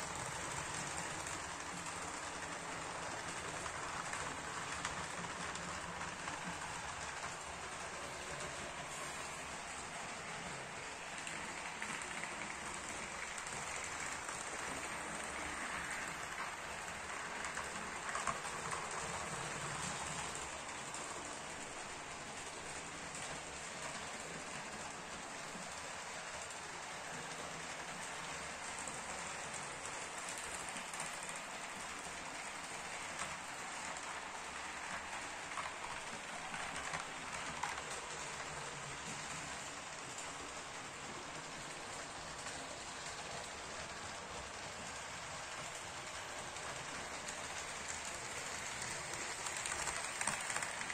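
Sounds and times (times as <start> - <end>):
steady rushing hiss: 0.0 - 50.9.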